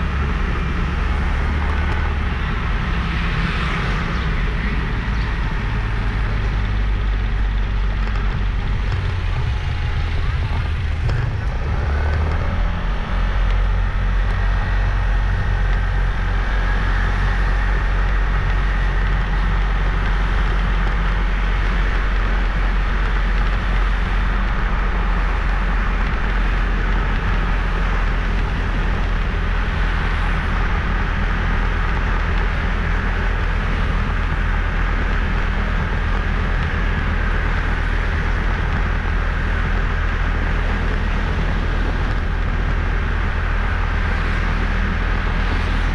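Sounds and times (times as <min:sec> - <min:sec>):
motorbike engine running: 0:00.0 - 0:45.9
road noise: 0:00.0 - 0:45.9
wind rumble on microphone: 0:00.0 - 0:45.9.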